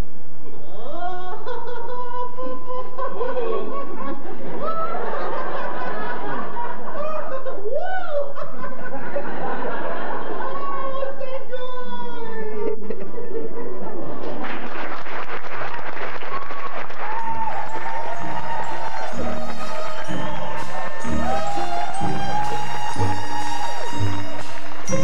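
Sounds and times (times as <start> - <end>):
people laughing: 0.9 - 11.3, 12.4 - 15.2, 17.3 - 25.0.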